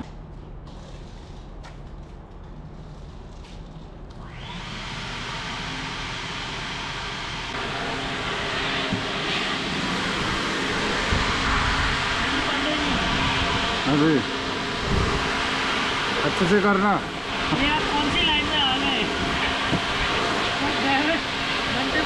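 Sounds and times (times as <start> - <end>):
vacuum cleaner running: 4.2 - 22.0.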